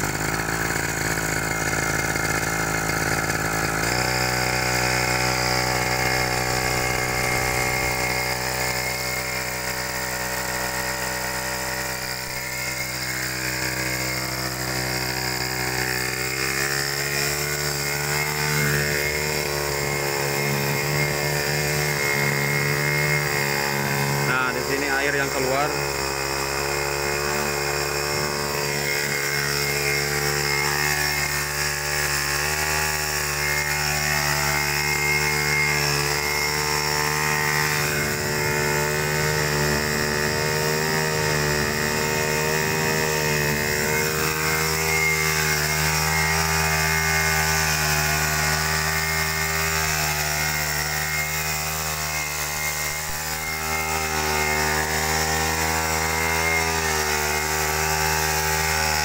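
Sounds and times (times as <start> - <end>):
small engine driving water pump: 0.0 - 59.0.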